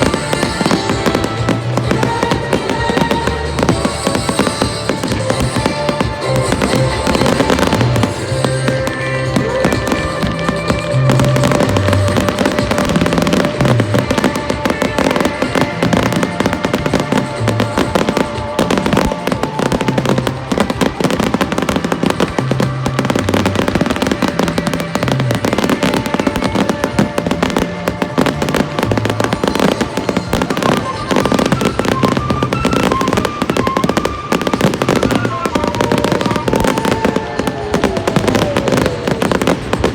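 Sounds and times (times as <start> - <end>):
fireworks crackling: 0.0 - 39.9
music with bass line: 0.0 - 39.9.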